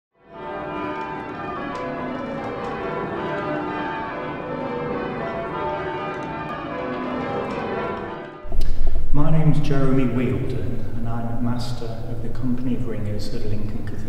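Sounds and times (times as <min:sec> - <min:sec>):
church bells ringing: 0:00.2 - 0:14.0.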